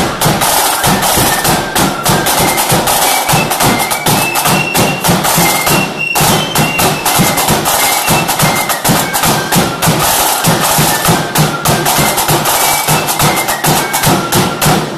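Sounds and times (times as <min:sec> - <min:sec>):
flutes playing high melody: 0:00.0 - 0:14.9
snare drums beating: 0:00.0 - 0:14.9.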